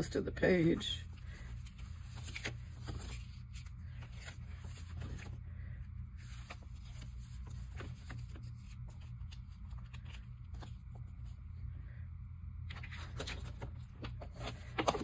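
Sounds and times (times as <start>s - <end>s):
paper rustling and crinkling: 0.0s - 5.4s, 6.2s - 11.4s, 12.6s - 15.0s
steady low hum: 0.0s - 15.0s.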